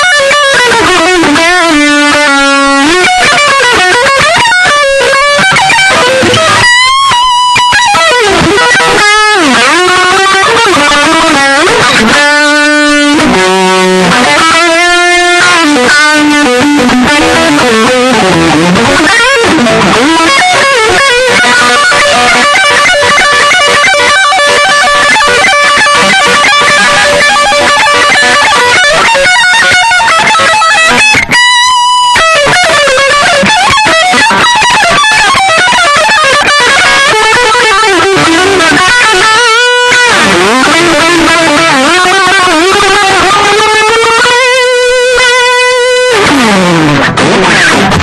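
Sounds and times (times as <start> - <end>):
distorted electric guitar solo: 0.0 - 48.0.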